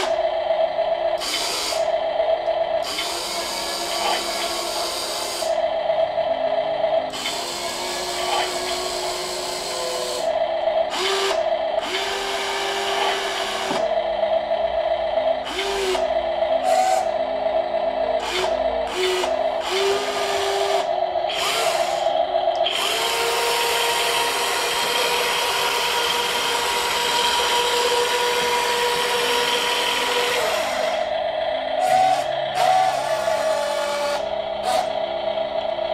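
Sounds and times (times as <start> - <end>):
toy excavator motors whining: 0.0 - 0.2, 1.1 - 14.0, 14.9 - 35.9.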